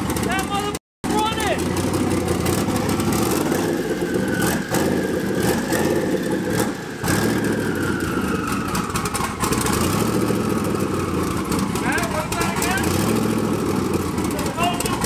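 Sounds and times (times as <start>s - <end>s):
car engine idling choppily: 0.0s - 15.0s.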